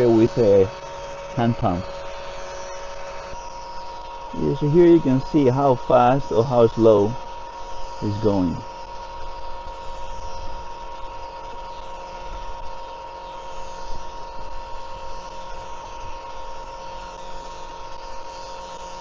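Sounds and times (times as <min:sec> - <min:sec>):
electric oil pump whining: 0:00.0 - 0:19.0.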